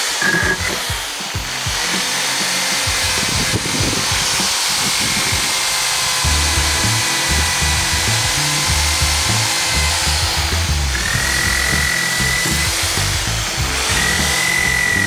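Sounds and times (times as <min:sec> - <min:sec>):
electric drill with wire brush: 0:00.0 - 0:15.0
background music with beat: 0:00.2 - 0:15.0.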